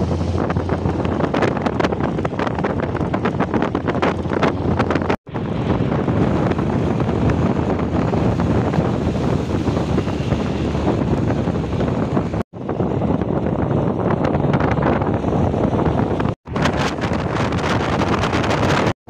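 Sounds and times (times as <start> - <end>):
road noise: 0.0 - 18.9
wind rushing over microphone: 0.0 - 19.0.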